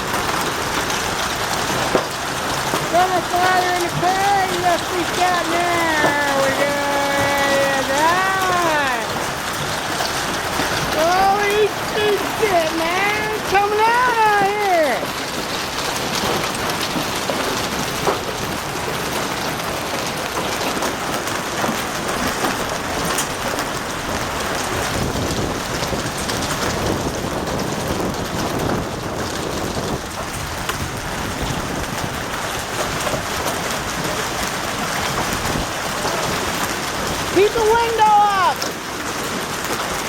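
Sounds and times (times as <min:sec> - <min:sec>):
hail and rain pelting hard surfaces: 0:00.0 - 0:40.0.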